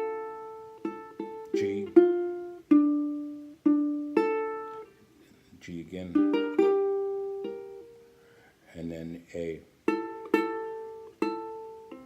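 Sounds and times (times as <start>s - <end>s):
plucked string melody: 0.0s - 8.2s, 9.8s - 12.0s.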